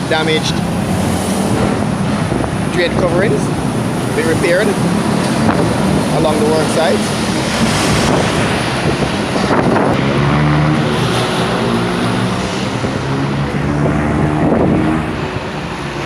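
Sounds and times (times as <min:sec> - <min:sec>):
traffic rushing: 0:00.0 - 0:16.0
vehicle engine droning: 0:00.0 - 0:16.0.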